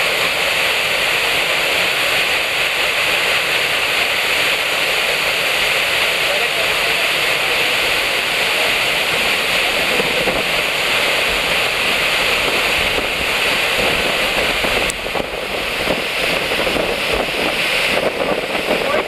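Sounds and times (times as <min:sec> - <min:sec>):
waterfall rushing into pool: 0:00.0 - 0:19.0.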